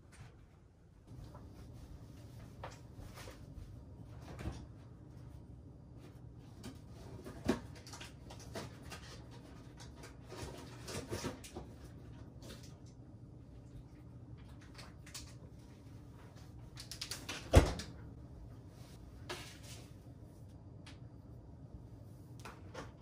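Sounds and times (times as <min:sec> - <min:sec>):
refrigerator hum: 0:00.0 - 0:23.0.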